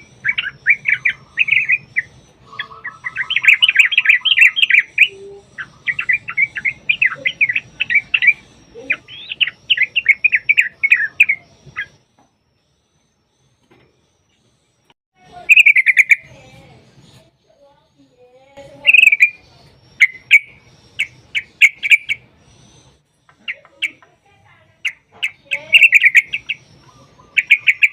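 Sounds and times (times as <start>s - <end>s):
bulbul singing: 0.0s - 27.9s.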